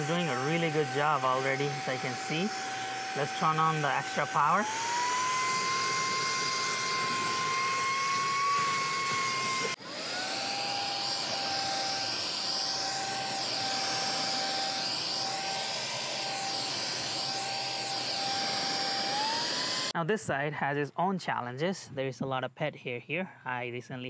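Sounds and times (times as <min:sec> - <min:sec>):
handheld vacuum motor whine: 0:00.0 - 0:20.0.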